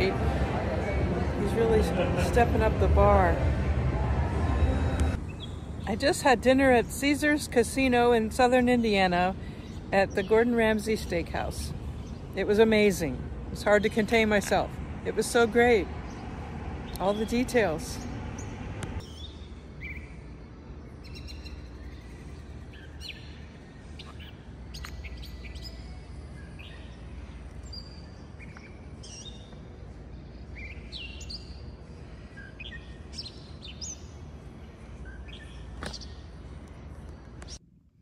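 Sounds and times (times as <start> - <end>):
birds chirping: 0.0 - 37.6
steady low hum: 0.0 - 38.0.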